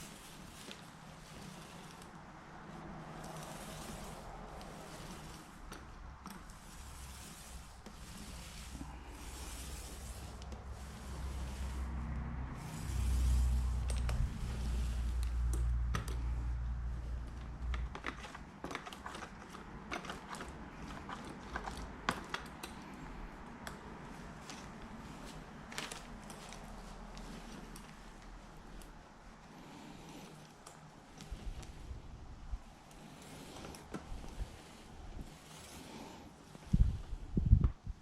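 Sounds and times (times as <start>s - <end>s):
deep rumble of paint roller: 0.0s - 38.0s.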